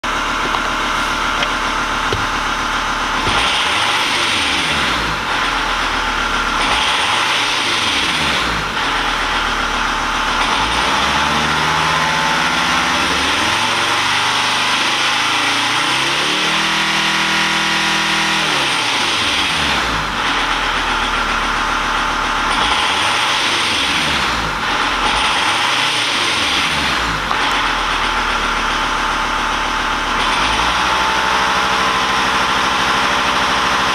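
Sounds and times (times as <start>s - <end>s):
engine rattle: 0.0s - 33.9s
van engine revving: 0.0s - 33.9s.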